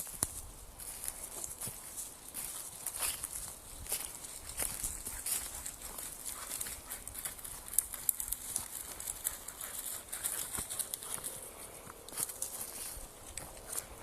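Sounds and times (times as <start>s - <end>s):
crunching rustling footsteps: 0.0s - 14.0s.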